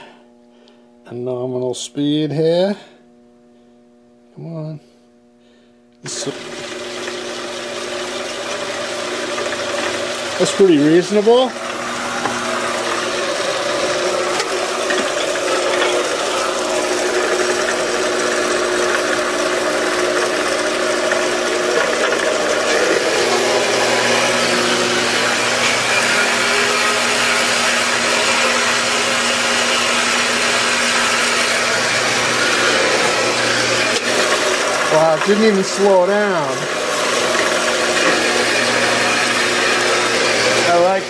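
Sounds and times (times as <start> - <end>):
motor hum: 0.0 - 41.0
band saw cutting steel: 6.2 - 41.0.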